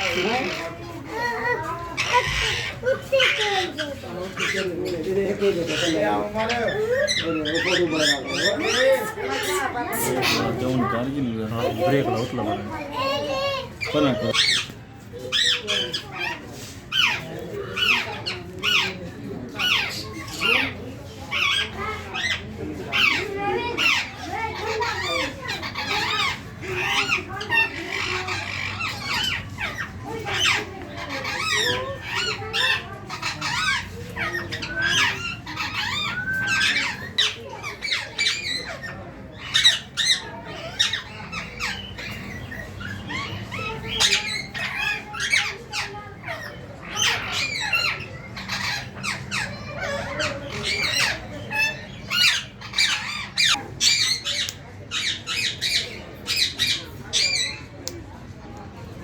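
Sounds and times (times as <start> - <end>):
parakeets squawking: 0.0 - 57.7.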